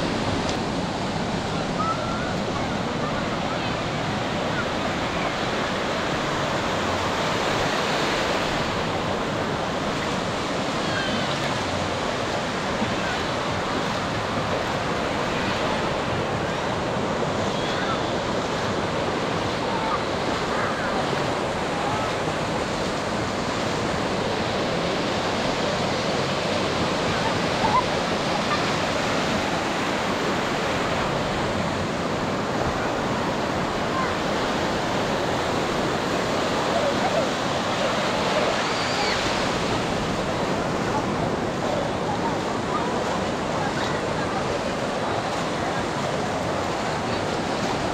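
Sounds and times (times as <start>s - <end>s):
ocean surf breaking: 0.0s - 47.9s
faint voices of bathers: 1.2s - 7.3s, 8.5s - 47.9s.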